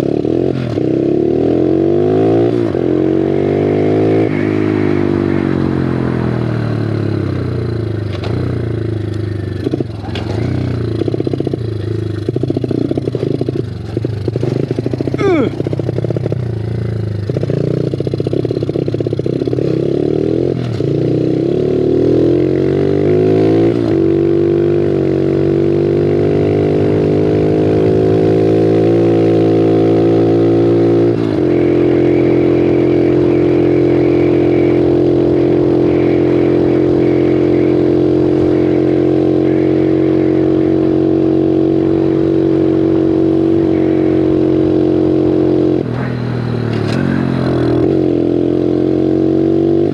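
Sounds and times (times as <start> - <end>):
pit bike engine revving: 0.0 - 49.9.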